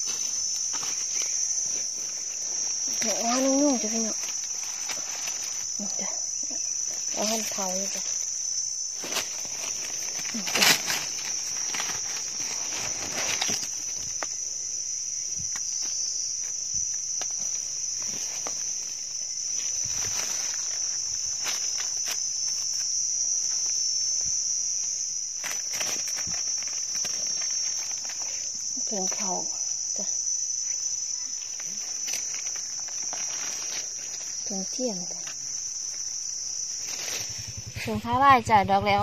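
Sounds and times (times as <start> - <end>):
dry leaves crackling underfoot: 0.0 - 29.8, 30.7 - 38.4
high-pitched insect drone: 0.0 - 39.0.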